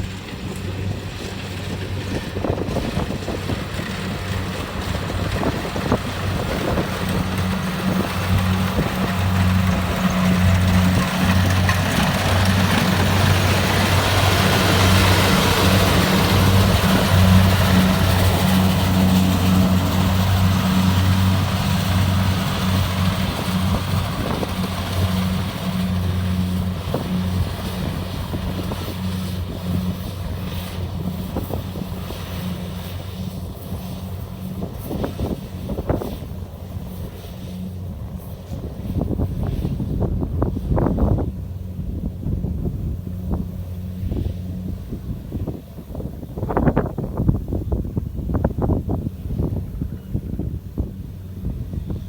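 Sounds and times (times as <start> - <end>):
combine harvester engine running: 0.0 - 52.0.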